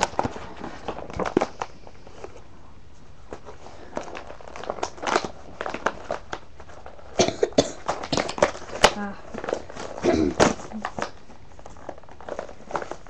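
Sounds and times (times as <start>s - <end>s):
plastic packaging crinkling: 0.0s - 2.4s, 3.3s - 13.0s.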